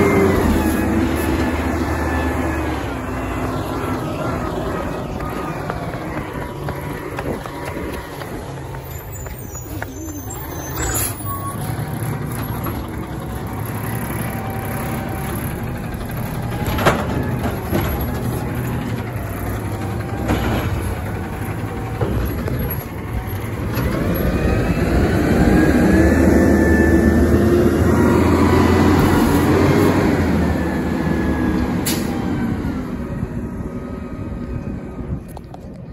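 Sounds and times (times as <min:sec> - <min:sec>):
garbage truck engine running: 0:00.0 - 0:35.9.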